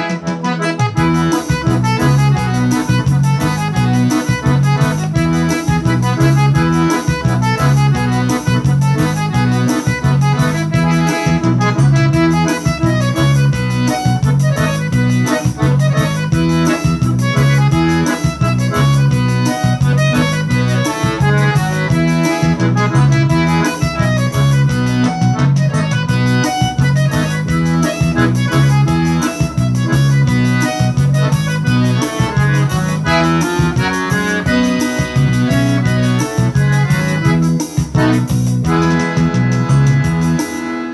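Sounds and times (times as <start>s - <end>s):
accordion melody: 0.0s - 40.9s
backing beat with bass line: 0.0s - 40.9s.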